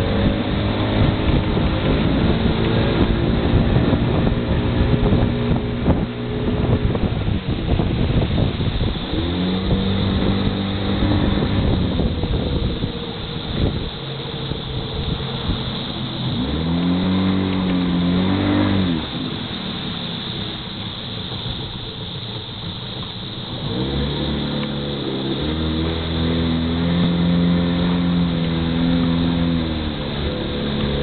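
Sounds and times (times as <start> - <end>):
boat motor running: 0.0 - 31.0
wind and water rushing: 0.0 - 31.0.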